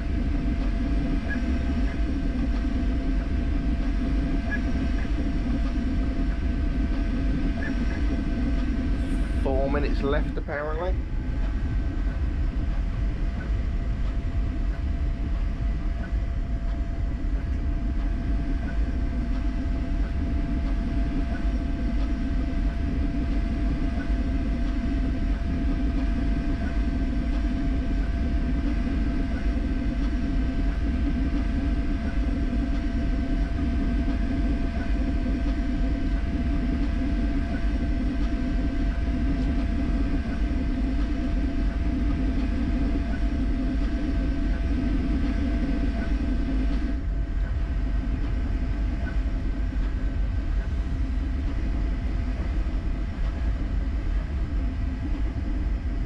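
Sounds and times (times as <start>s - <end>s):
printer fans rumbling: 0.0s - 56.0s
thin steady whine: 0.0s - 56.0s.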